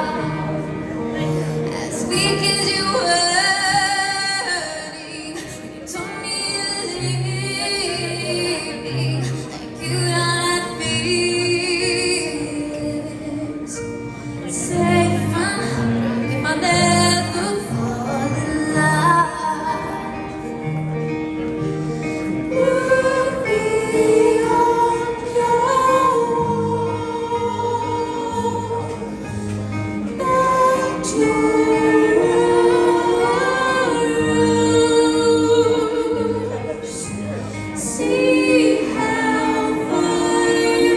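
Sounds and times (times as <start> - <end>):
live rock band: 0.0 - 40.9
woman singing: 1.8 - 20.4, 22.5 - 29.2, 30.0 - 40.9.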